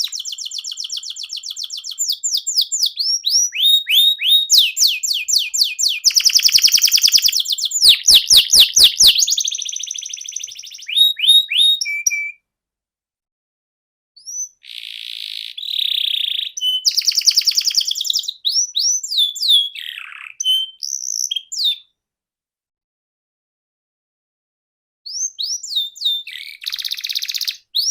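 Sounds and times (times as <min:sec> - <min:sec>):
canary singing trills: 0:00.0 - 0:12.4, 0:14.2 - 0:21.8, 0:25.1 - 0:27.9.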